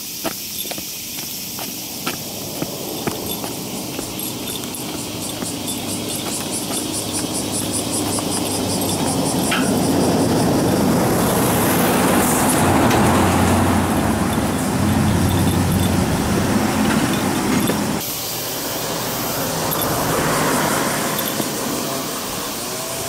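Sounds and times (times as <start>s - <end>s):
outdoor hiss: 0.0s - 14.2s, 16.5s - 23.0s
vehicles passing: 0.2s - 23.0s
truck approaching: 0.6s - 23.0s.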